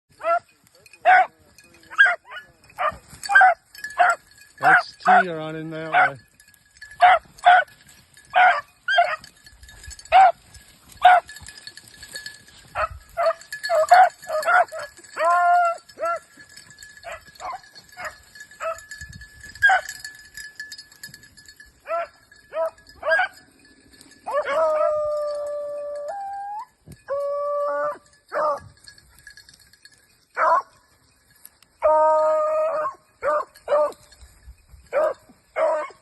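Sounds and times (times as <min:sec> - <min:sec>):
dogs barking and baying: 0:00.1 - 0:06.2, 0:06.8 - 0:29.6, 0:30.3 - 0:30.9, 0:31.7 - 0:34.2, 0:34.9 - 0:36.0.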